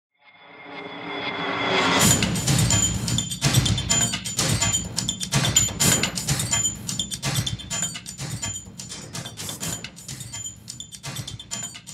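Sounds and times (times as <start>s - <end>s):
theme music with steady beat: 2.0s - 11.9s.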